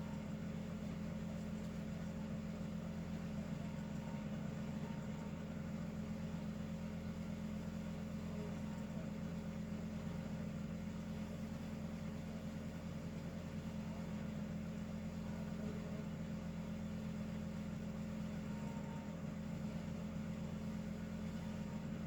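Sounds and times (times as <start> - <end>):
steady low hum with hiss: 0.0 - 22.0.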